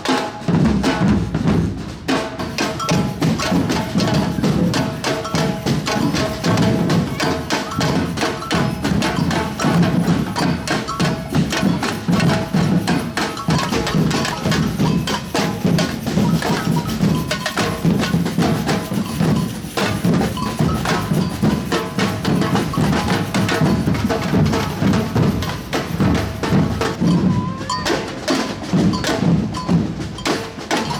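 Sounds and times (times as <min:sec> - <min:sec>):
samba percussion band playing: 0:00.0 - 0:30.9.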